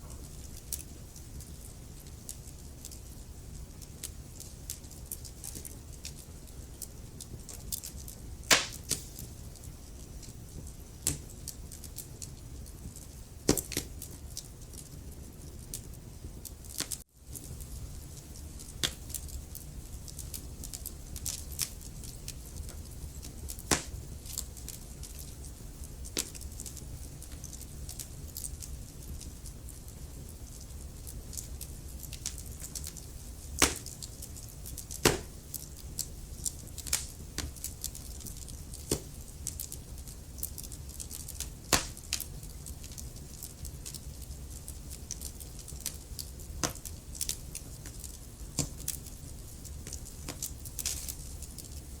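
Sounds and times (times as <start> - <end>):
low rumble of flames: 0.0 - 52.0
wood fire crackling: 0.0 - 52.0.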